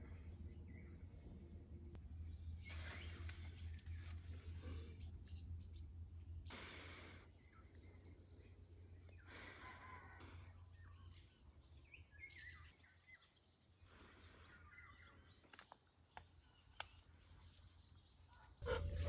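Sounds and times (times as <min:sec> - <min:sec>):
soft bird chirps: 0:02.2 - 0:06.6, 0:07.2 - 0:19.0.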